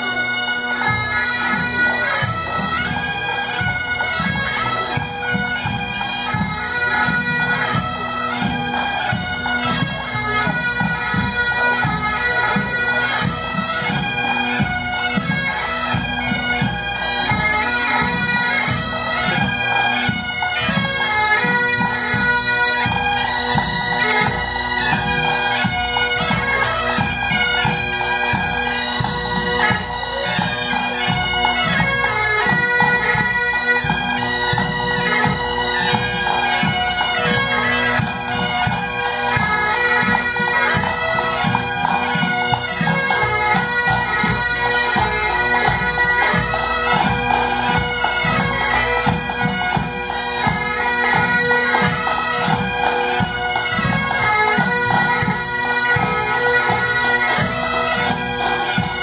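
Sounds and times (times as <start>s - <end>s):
bagpipes playing melody: 0.0s - 59.0s.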